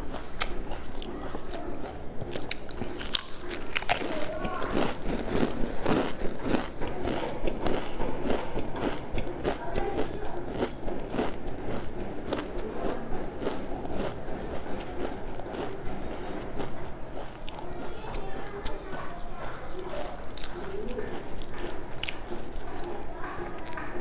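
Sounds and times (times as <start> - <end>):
close chewing of food: 0.0 - 24.0.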